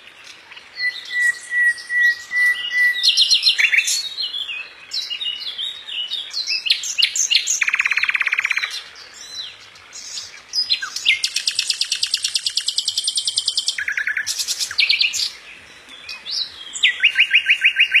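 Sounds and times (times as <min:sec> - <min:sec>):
birds chirping and trilling: 0:00.0 - 0:18.0.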